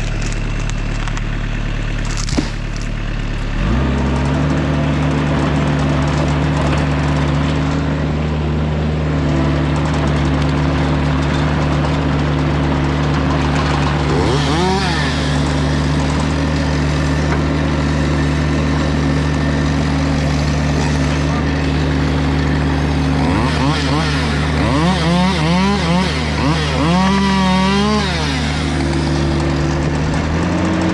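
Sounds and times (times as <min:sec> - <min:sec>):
skid steer loader engine running: 0:00.0 - 0:30.9.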